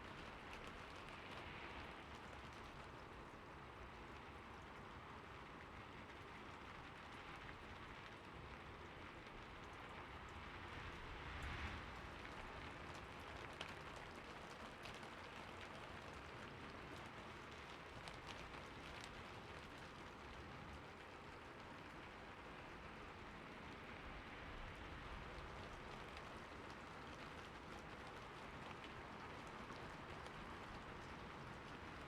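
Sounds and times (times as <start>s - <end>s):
rain on a roof: 0.0s - 32.0s.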